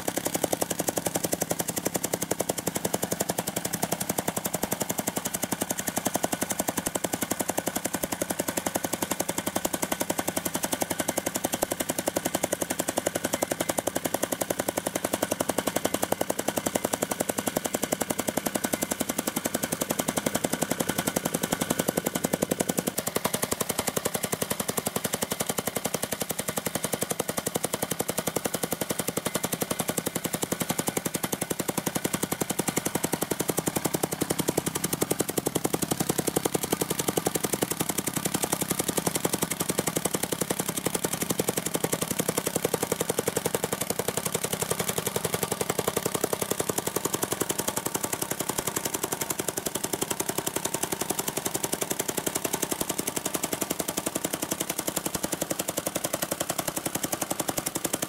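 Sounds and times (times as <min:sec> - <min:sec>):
engine running: 0:00.0 - 0:58.0
tamping rammer pounding gravel: 0:00.0 - 0:58.0.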